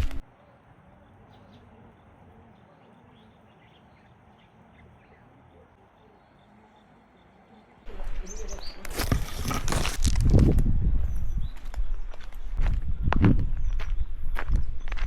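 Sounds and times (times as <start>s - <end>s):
faint birds chirping: 0.0s - 9.0s, 11.0s - 15.0s.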